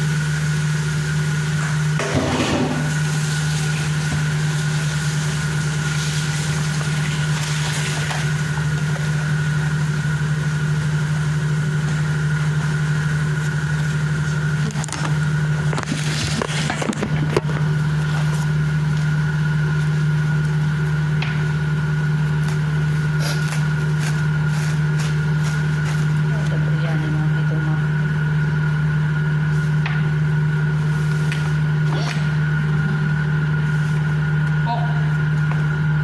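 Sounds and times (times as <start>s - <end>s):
exhaust fan humming: 0.0s - 36.0s.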